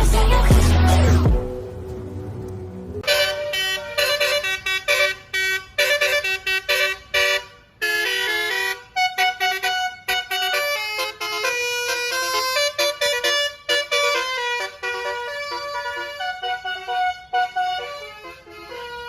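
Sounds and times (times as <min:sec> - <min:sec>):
multi-tone bus air horn melody: 0:03.0 - 0:19.0.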